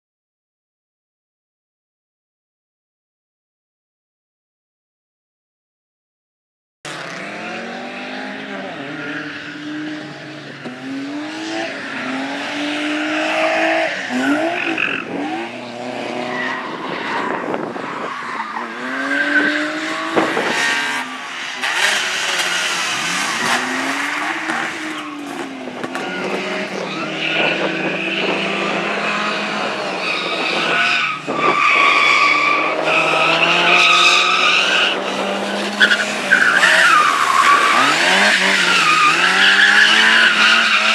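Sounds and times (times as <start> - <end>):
car engine revving hard: 6.9 - 17.7, 18.6 - 40.9
tyres skidding: 6.9 - 40.9.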